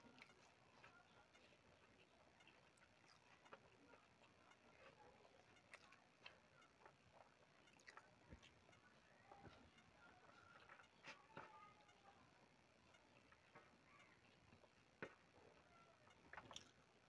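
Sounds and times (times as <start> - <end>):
fingers mixing rice on metal plate: 0.0 - 16.8
chewing: 0.0 - 17.0.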